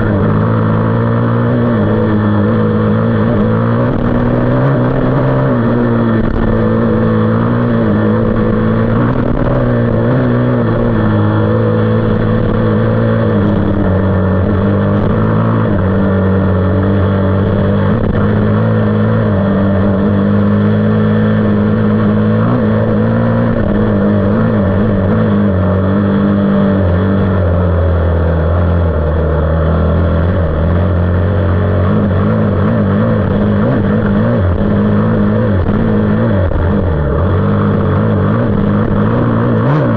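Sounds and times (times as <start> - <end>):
engine running hard: 0.0 - 39.9.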